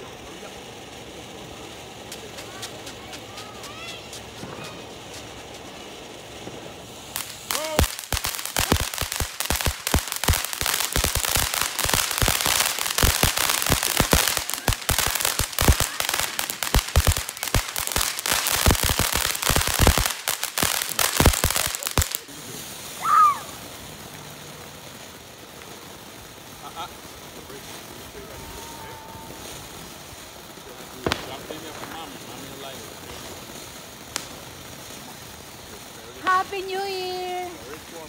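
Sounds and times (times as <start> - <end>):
firework crackling pops: 0.0 - 38.0.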